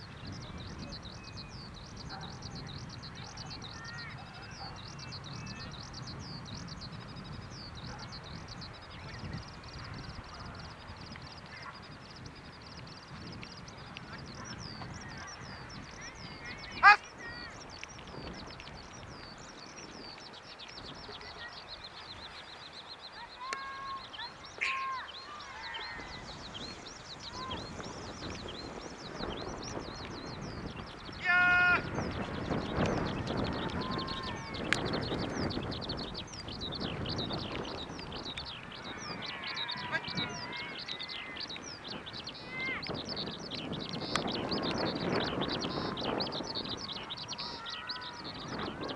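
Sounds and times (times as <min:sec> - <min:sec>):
birds twittering chorus: 0:00.0 - 0:48.9
loud bird calls: 0:00.0 - 0:48.9
songbird chirping: 0:00.0 - 0:48.9.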